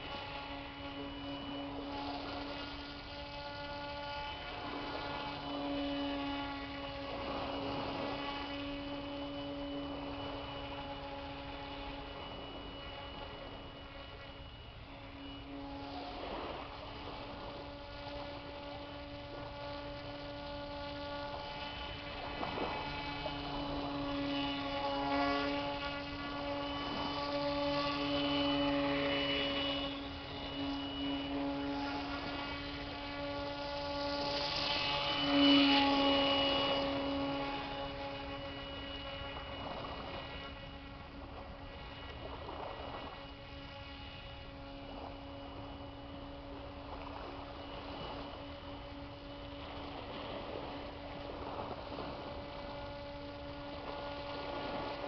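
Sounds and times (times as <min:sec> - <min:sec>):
model airboat motor humming: 0:00.0 - 0:55.0.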